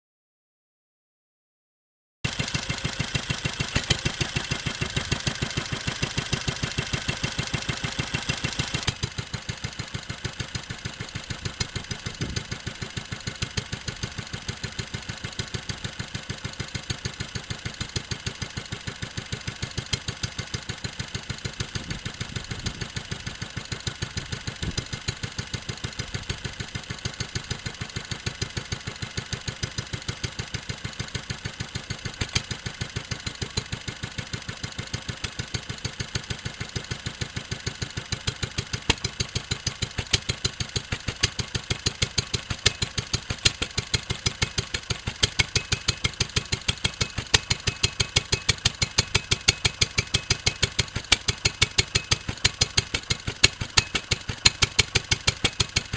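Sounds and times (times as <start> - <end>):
stationary petrol engine running: 2.2 - 55.9.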